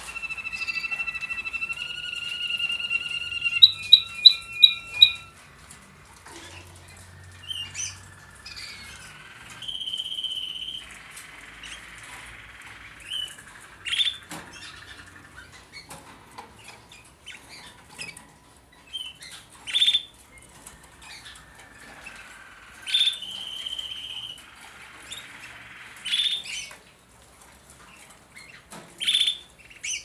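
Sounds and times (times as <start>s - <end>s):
canaries singing: 0.0s - 30.0s.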